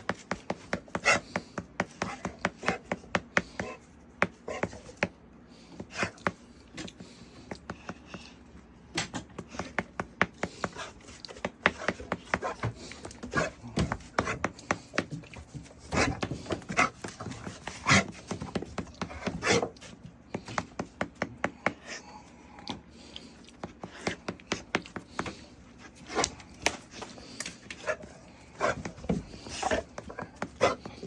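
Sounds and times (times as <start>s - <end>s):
dog panting and sniffing: 0.0s - 8.4s, 9.4s - 21.8s, 22.8s - 31.0s.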